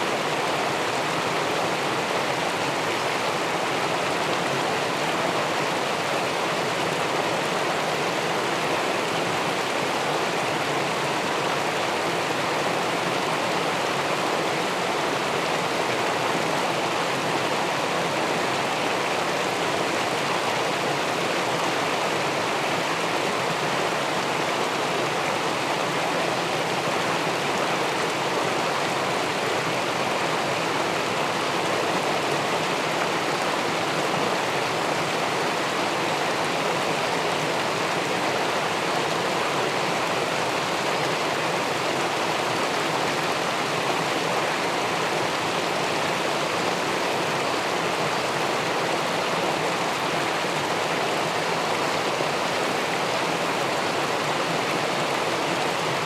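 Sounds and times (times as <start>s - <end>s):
water rushing over a weir: 0.0s - 56.0s.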